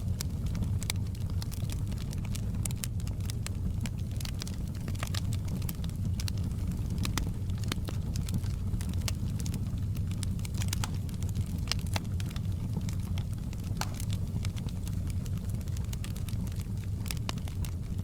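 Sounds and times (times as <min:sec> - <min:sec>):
logs crackling and popping: 0:00.0 - 0:18.0
rumble of fire flames: 0:00.0 - 0:18.0.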